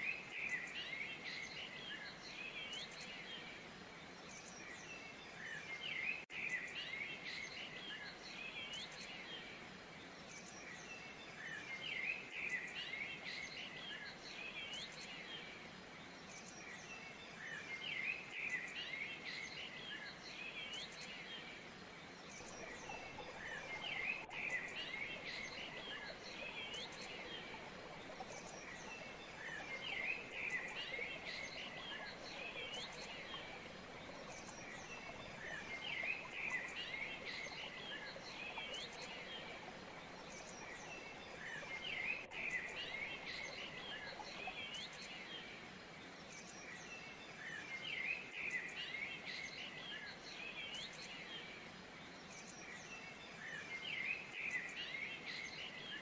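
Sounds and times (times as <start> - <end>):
soft background hiss: 0.0 - 56.0
songbirds chirping and twittering: 0.0 - 56.0.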